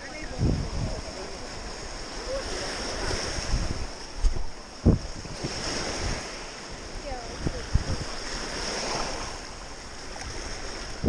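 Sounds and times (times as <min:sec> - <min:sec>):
small waves washing over rocks: 0:00.0 - 0:11.0
wind on microphone: 0:00.0 - 0:11.0.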